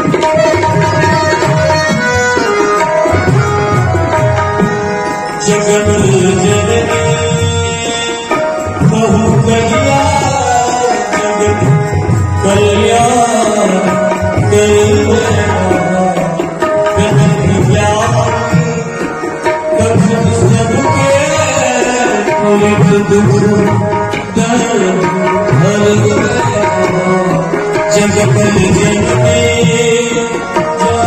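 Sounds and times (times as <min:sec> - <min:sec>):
harmonium melody: 0:00.0 - 0:31.0
tabla rhythm: 0:00.0 - 0:31.0.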